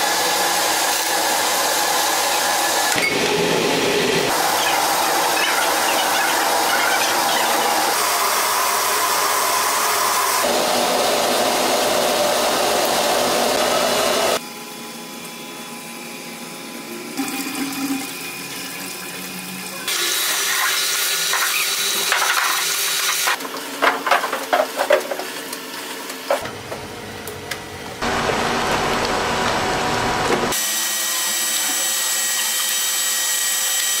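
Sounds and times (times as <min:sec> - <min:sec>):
packing machinery running: 0:00.0 - 0:14.4, 0:19.9 - 0:34.0.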